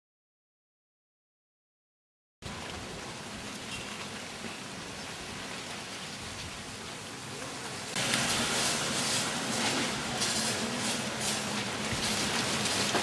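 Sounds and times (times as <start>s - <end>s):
outdoor background hiss: 2.4s - 13.0s.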